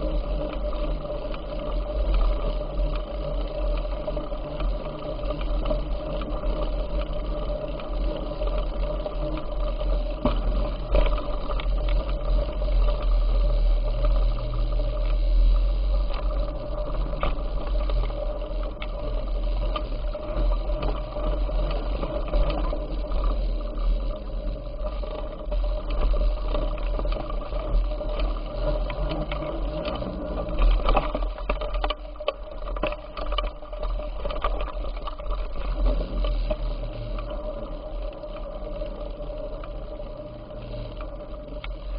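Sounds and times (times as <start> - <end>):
bicycle chain and tyres whirring: 0.0 - 41.9
deep continuous rumble: 0.0 - 41.9.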